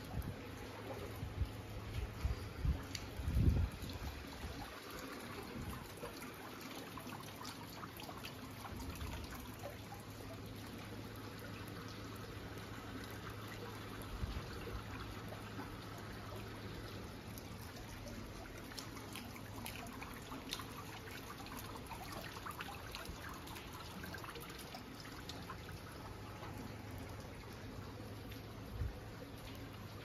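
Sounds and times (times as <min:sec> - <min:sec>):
water dripping and trickling: 0:00.0 - 0:30.0.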